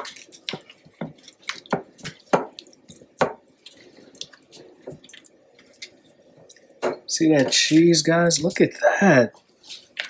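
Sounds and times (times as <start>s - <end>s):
spoon stirring wet food: 0.0s - 10.0s.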